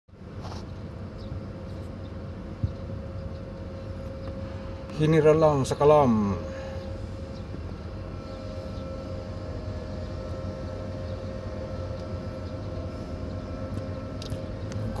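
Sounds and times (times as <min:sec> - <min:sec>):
truck engine idling: 0:00.2 - 0:15.0.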